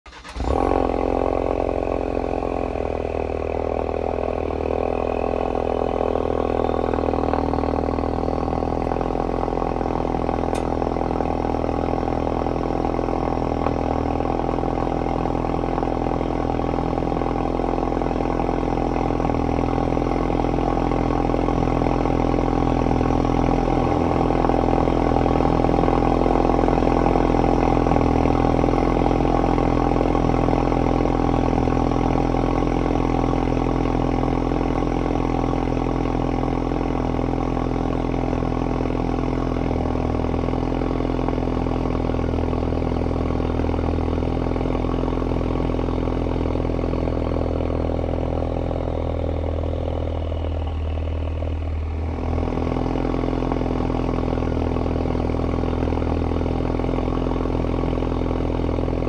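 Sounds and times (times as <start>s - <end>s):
car engine idling: 0.1s - 59.0s.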